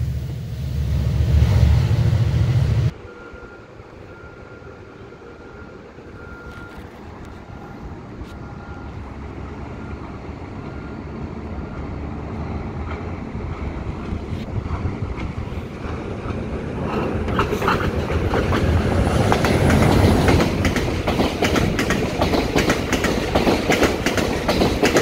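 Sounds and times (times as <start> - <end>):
distant train approaching: 0.0 - 25.0
train rumbling past: 0.0 - 25.0.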